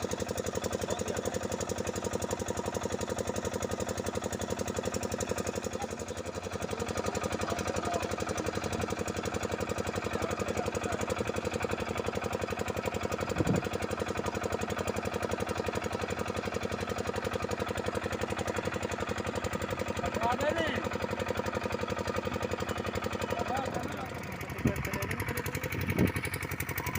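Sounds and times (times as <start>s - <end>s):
small engine running: 0.0s - 26.9s.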